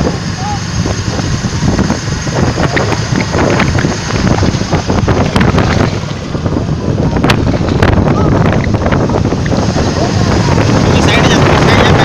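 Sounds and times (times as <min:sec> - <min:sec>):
motorcycle engines running: 0:00.0 - 0:12.0
wind buffeting microphone: 0:00.0 - 0:12.0.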